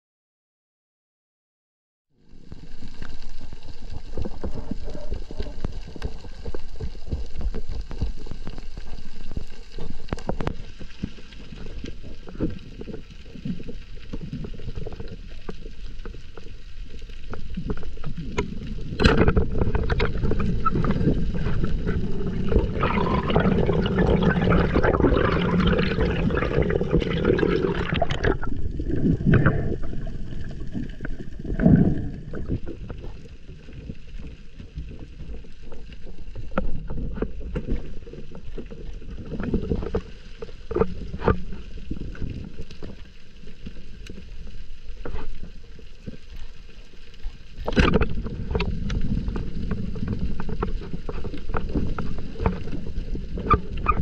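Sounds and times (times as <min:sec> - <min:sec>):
churning and bubbling water: 0:02.2 - 0:54.0
underwater rush of water: 0:02.2 - 0:54.0.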